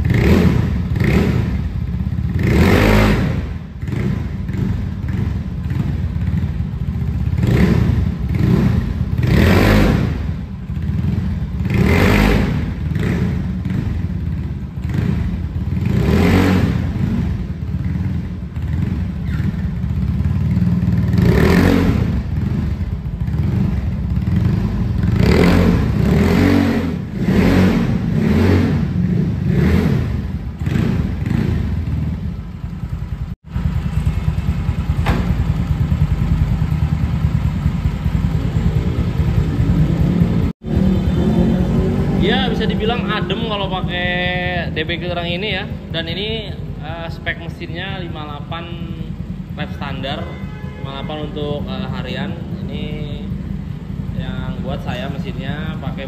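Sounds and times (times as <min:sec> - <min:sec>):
scooter engine revving and idling: 0:00.0 - 0:56.0.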